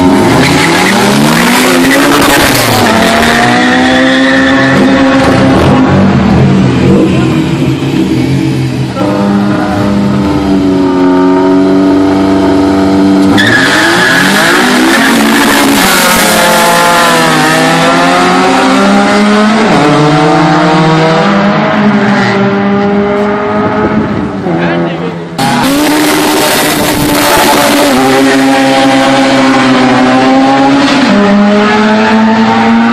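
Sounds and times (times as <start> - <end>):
car engine at full throttle: 0.0 - 32.9.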